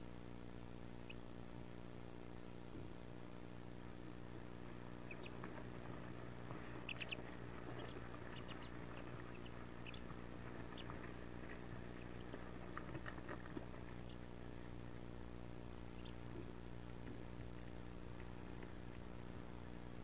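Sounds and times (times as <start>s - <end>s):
steady low hum: 0.0s - 20.0s
ducklings peeping: 0.9s - 1.7s, 3.9s - 20.0s.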